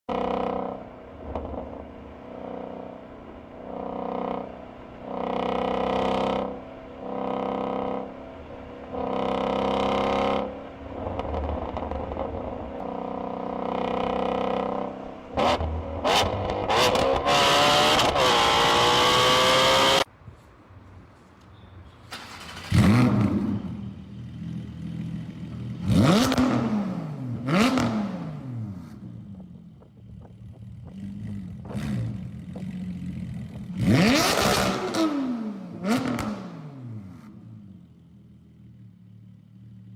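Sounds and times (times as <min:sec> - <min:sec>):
car exhaust revving: 0:00.4 - 0:20.1, 0:22.7 - 0:39.9.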